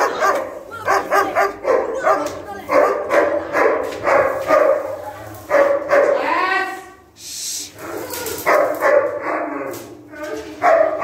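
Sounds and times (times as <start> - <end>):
dog barking: 0.0 - 6.3, 7.8 - 9.7, 10.4 - 11.0.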